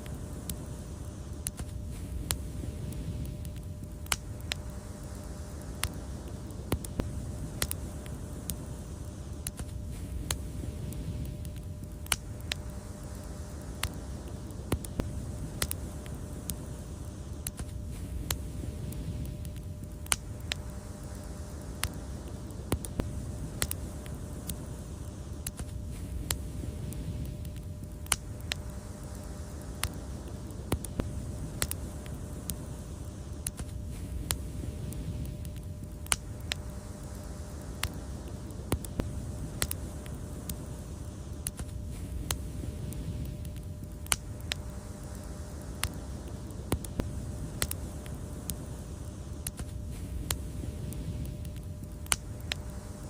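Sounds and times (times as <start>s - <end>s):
low rumble of burning: 0.0s - 53.0s
wood fire crackling: 0.0s - 53.0s.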